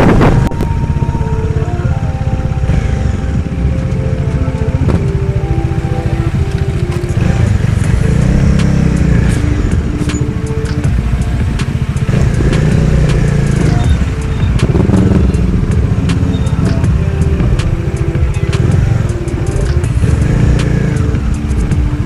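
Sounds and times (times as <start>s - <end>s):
motorcycle engine low rumble: 0.0s - 22.0s.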